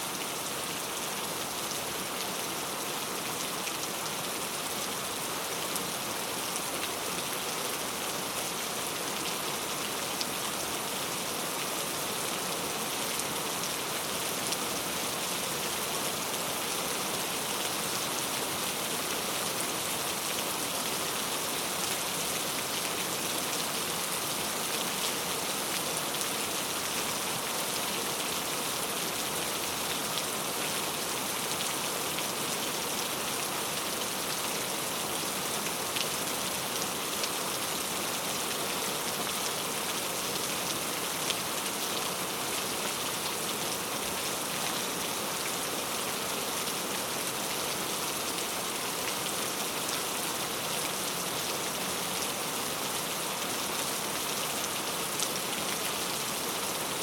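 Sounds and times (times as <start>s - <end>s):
rain pattering on a surface: 0.1s - 57.0s.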